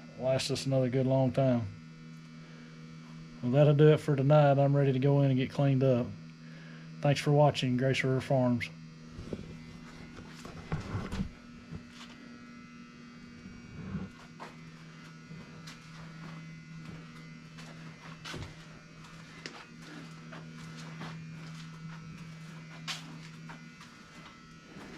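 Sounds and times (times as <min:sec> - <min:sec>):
small motor buzzing hum: 0:00.0 - 0:24.9.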